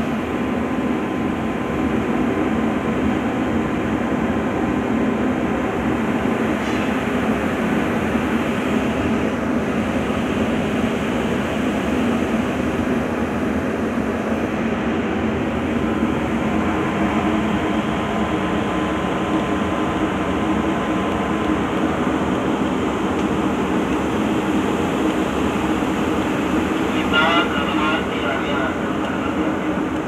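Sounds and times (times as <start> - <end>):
ferry engines droning: 0.0 - 30.0.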